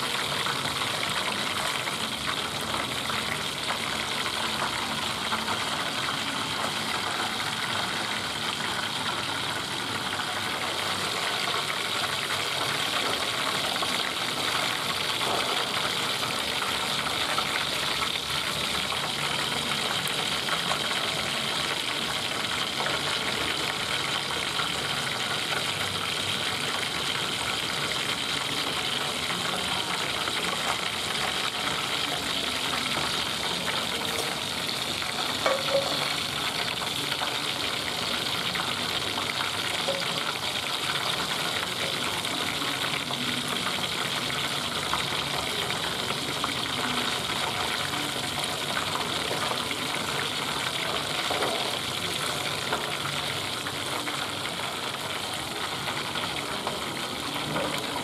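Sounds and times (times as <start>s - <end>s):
hot oil sizzling and crackling: 0.0s - 58.0s.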